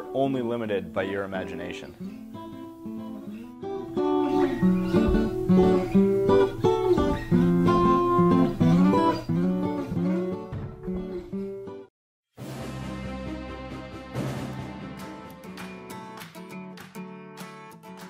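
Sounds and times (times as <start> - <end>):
acoustic guitar music: 0.0 - 11.9, 13.1 - 18.0.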